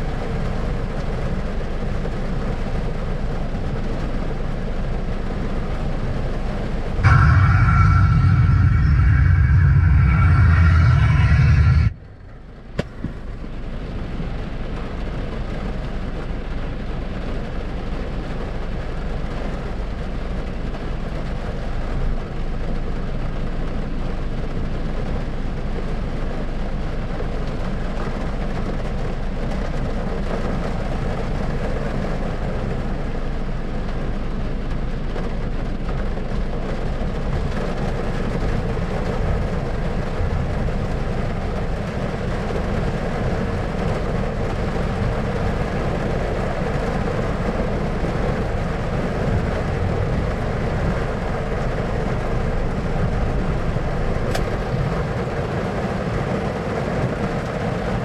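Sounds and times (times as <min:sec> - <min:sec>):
low rumbling white noise: 0:00.0 - 0:58.0.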